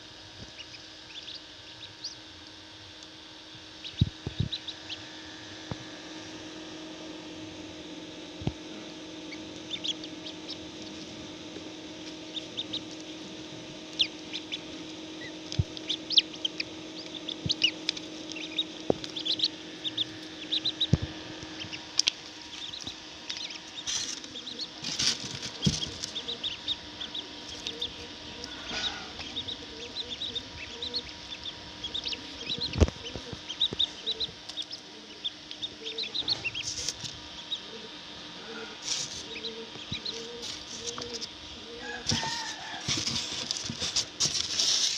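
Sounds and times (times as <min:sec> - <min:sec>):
incubator fan hum: 0:00.0 - 0:44.9
chicks peeping: 0:00.4 - 0:07.3, 0:08.0 - 0:44.9.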